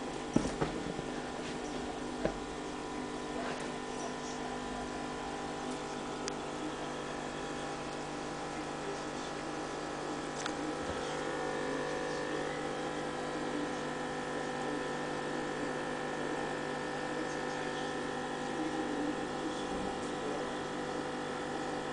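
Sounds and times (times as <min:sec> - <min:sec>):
aquarium pump humming: 0:00.0 - 0:21.9.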